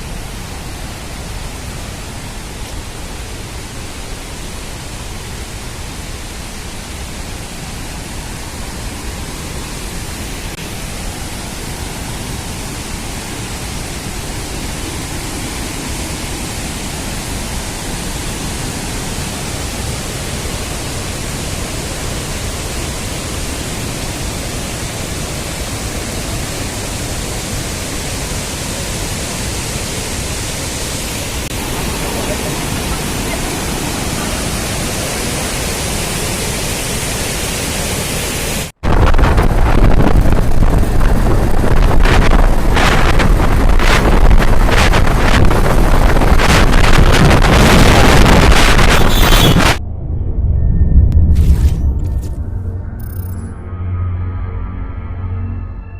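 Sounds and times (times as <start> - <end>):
waterfall roaring: 0.0 - 49.8.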